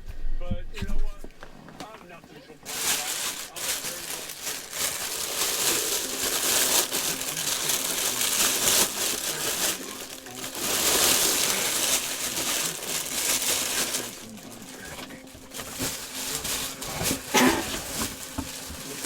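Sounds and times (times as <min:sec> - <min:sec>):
packaging crinkling: 0:02.6 - 0:19.0.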